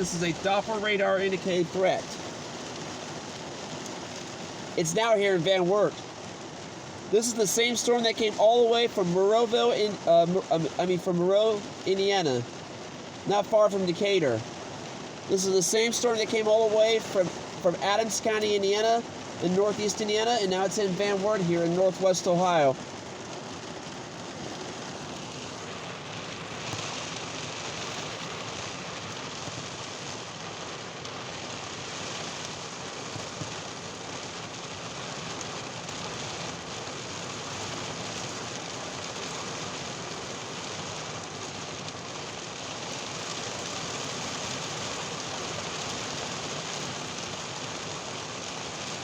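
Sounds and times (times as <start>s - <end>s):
heavy rain hiss: 0.0s - 49.0s.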